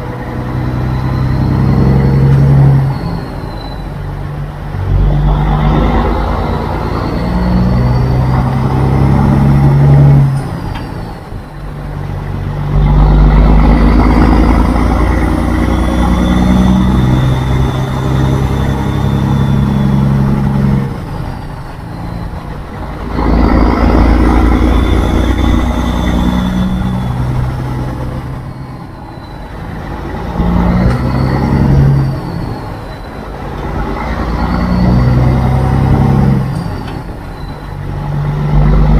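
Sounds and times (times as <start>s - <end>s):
truck diesel engine under load: 0.0s - 38.9s.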